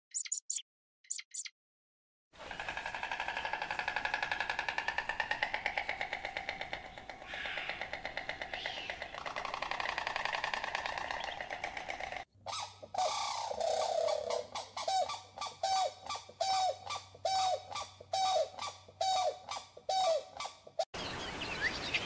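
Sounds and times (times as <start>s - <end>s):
stork bill rattling: 2.4s - 20.8s.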